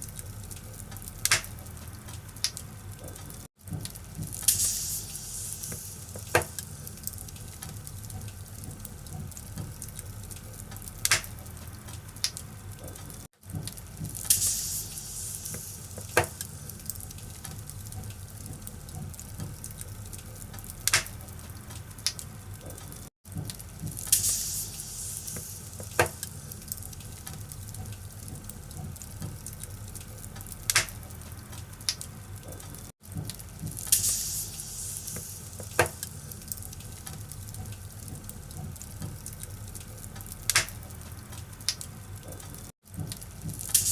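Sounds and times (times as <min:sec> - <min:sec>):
fire popping: 0:00.0 - 0:43.9
wood fire hissing and rumbling: 0:00.0 - 0:43.9.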